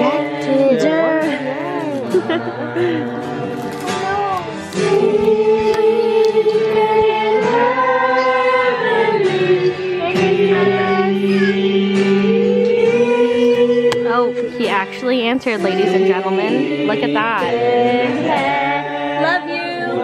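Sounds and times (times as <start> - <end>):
voices singing slow song: 0.0 - 20.0.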